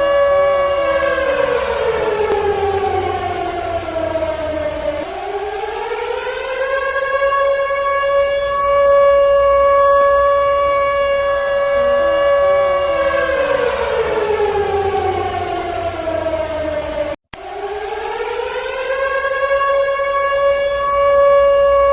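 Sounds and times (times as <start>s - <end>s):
civil defense siren wailing: 0.0s - 21.9s.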